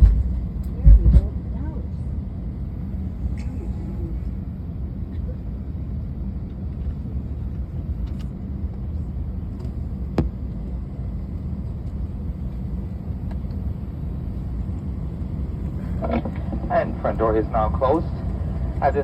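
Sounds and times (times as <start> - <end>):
aircraft cabin low rumble: 0.0 - 19.0.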